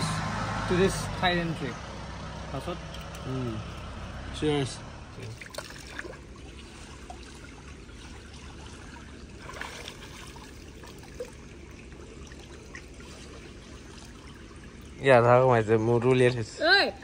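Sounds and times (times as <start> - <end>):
pool water sloshing and trickling: 0.0 - 17.0
small water splashes: 1.8 - 17.0.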